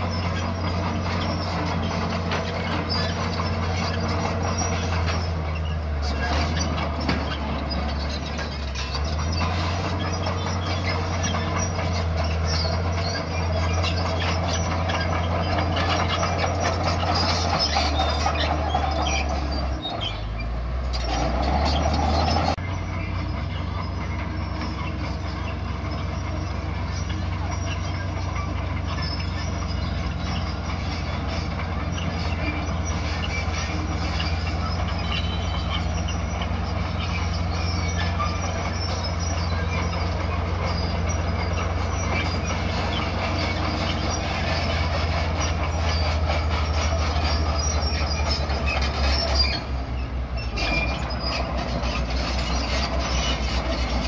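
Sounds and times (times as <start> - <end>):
bulldozer diesel engine under load: 0.0 - 54.0
steel tracks clattering and squealing: 0.0 - 54.0.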